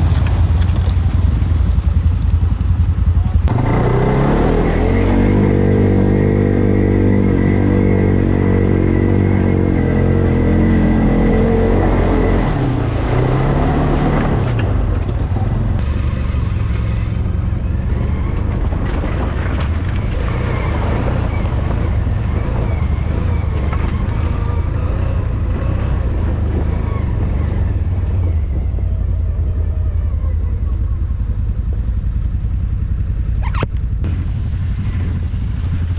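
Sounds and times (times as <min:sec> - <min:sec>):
atv engine running: 0:00.0 - 0:35.9.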